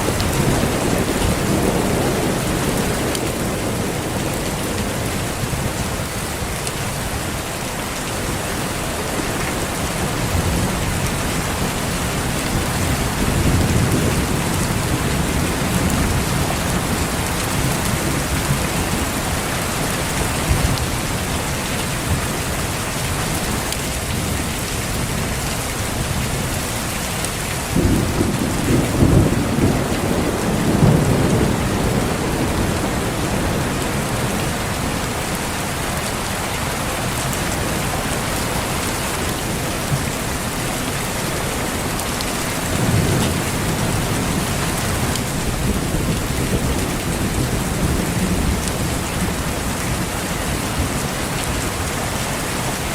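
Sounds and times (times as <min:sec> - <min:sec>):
thunder rumbling: 0:00.0 - 0:06.5, 0:08.8 - 0:26.6, 0:27.7 - 0:51.9
heavy rain: 0:00.0 - 0:52.9.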